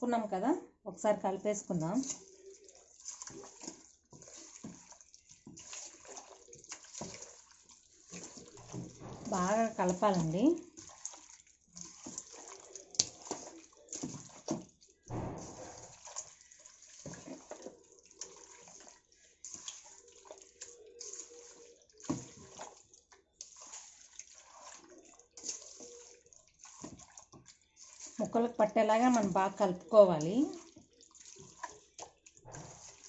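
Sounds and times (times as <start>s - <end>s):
hand squelching wet marinade: 1.5s - 33.0s.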